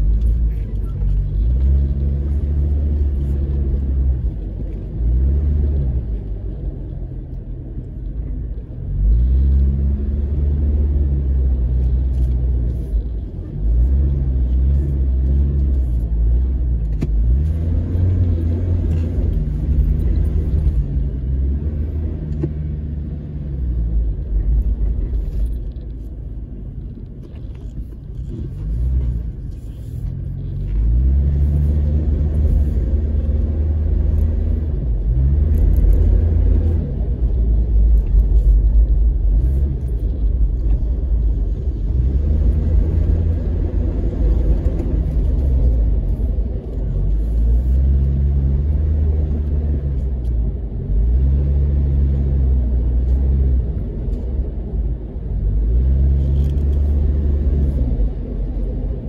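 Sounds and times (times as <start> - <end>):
vehicle engine revving: 8.9 - 26.0, 27.6 - 59.0.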